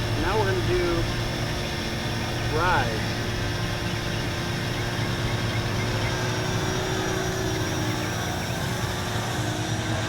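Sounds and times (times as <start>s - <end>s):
drone propellers humming: 0.0s - 10.0s
outdoor noise: 0.0s - 10.0s.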